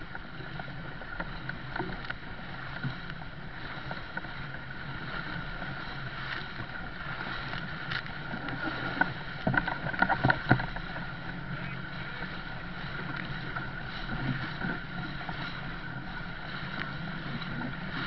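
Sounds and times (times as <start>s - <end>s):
water rushing past yacht: 0.0s - 18.0s
wind: 0.0s - 18.0s.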